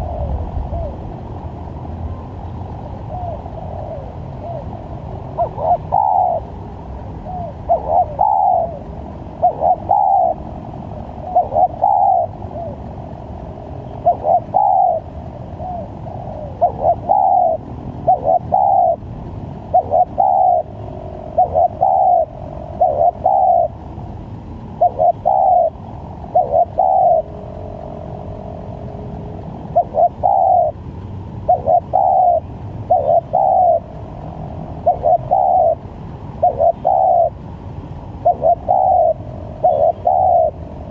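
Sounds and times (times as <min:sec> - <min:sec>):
dove cooing: 0:00.0 - 0:01.1, 0:02.1 - 0:13.0, 0:13.7 - 0:19.0, 0:19.6 - 0:23.8, 0:24.6 - 0:30.8, 0:31.4 - 0:37.4, 0:38.2 - 0:40.9
steady low hum: 0:00.0 - 0:40.9.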